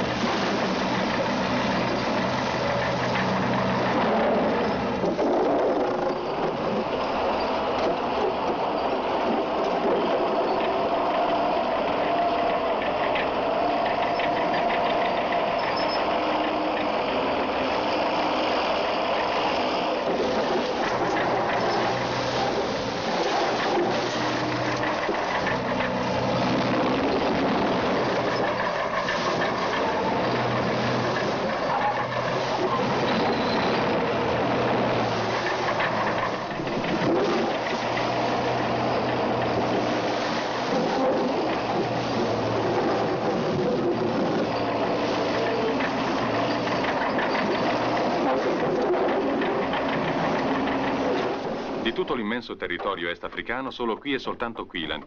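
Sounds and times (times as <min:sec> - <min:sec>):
bulldozer running under load: 0:00.0 - 0:55.0.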